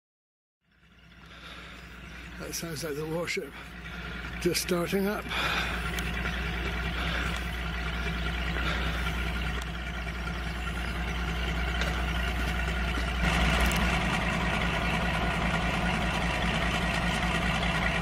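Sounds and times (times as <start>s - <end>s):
diesel locomotive engine idling: 0.7s - 18.0s.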